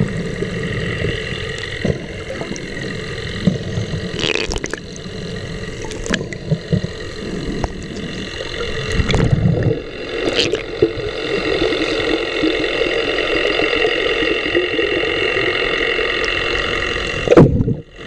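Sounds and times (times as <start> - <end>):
boat engine hum underwater: 0.0 - 18.0
underwater gurgles: 0.0 - 18.0.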